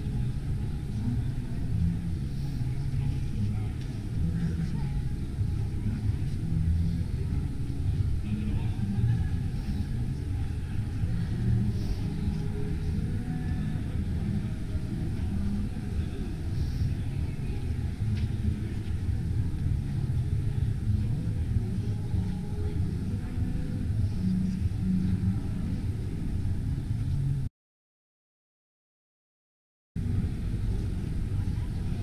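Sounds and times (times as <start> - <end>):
exhibition hall background rumble: 0.0 - 27.5, 30.0 - 32.0.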